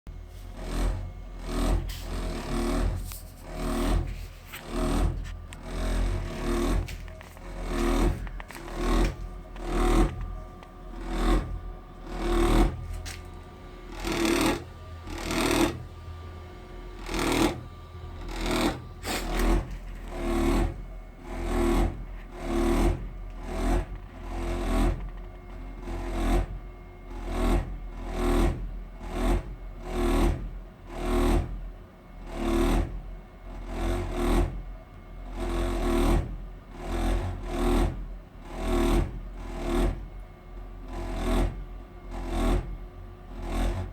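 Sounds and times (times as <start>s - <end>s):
gas boiler buzzing throb: 0.1s - 43.9s.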